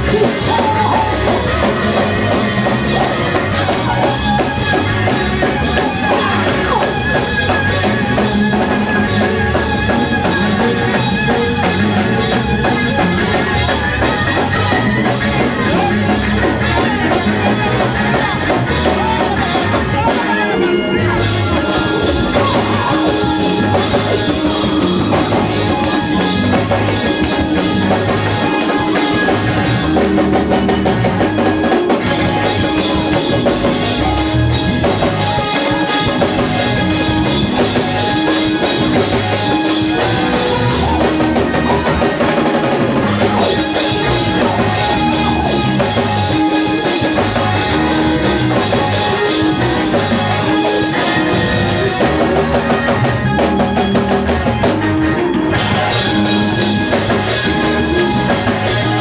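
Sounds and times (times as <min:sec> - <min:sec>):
bass: 0:00.0 - 0:59.0
congregation voices: 0:00.0 - 0:59.0
drum kit steady beat: 0:00.0 - 0:59.0
keyboard: 0:00.0 - 0:59.0.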